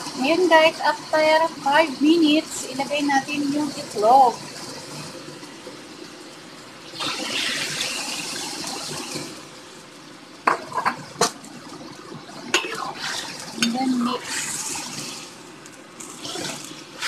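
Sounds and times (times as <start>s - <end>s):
food sizzling in a wok: 0.0s - 11.7s, 12.5s - 17.0s.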